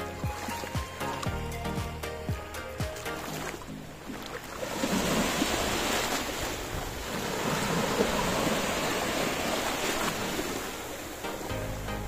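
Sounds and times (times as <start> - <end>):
small waves splashing: 0.0 - 11.6.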